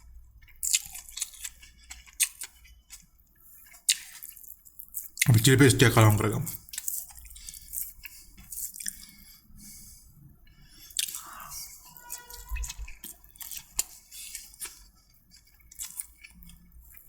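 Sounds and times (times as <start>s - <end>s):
wet sticky food squishing: 0.0s - 17.0s.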